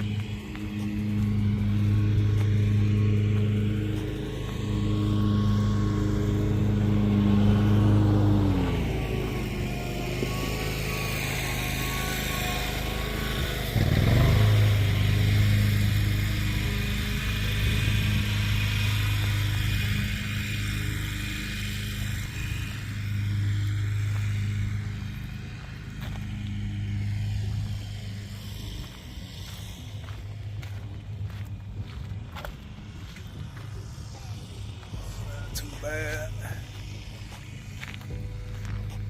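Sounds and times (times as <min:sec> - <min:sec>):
motor humming: 0:00.0 - 0:39.0.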